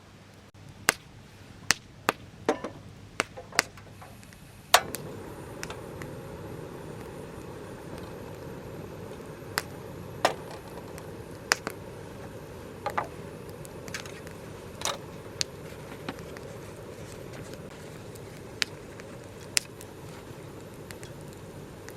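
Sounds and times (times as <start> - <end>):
campfire crackling and popping: 0.3 - 21.9.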